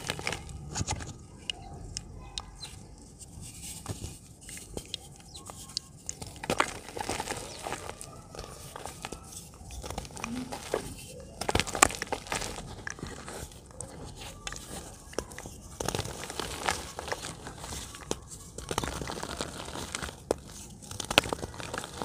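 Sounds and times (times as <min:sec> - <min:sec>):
dry dirt chunks snapping: 0:00.0 - 0:02.8, 0:03.6 - 0:22.0
grit trickling: 0:00.0 - 0:22.0.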